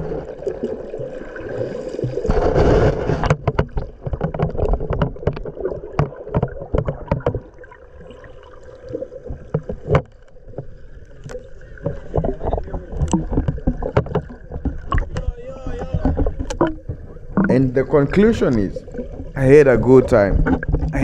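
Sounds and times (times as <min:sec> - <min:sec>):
water splashing around boat: 0:00.0 - 0:21.0.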